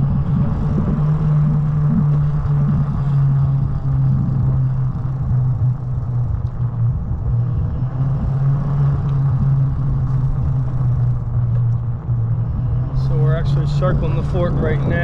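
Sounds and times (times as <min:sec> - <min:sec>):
rough rumbling noise: 0:00.0 - 0:15.0
small vehicle motor humming: 0:00.0 - 0:15.0.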